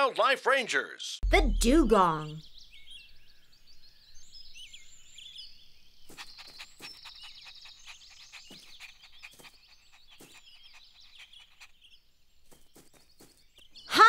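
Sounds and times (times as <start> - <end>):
birds chirping: 1.3 - 14.0.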